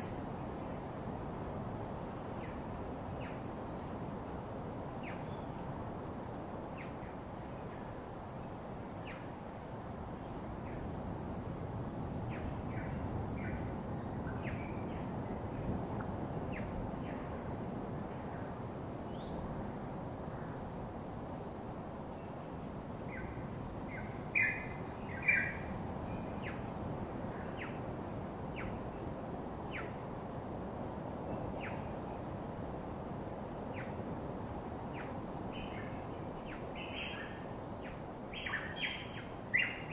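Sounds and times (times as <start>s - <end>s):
low rush of ambient noise: 0.0s - 39.9s.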